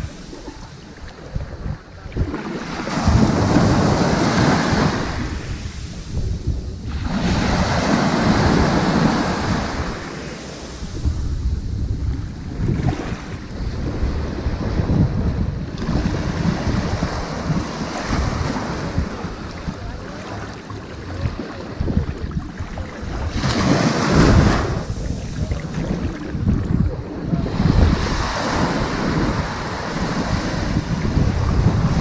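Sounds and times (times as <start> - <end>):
ocean waves washing onto beach: 0.0 - 32.0
wind rumble on microphone: 0.0 - 32.0.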